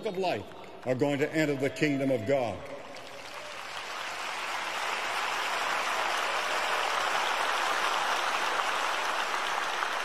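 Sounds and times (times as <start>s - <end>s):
stadium crowd applauding: 0.0s - 10.0s.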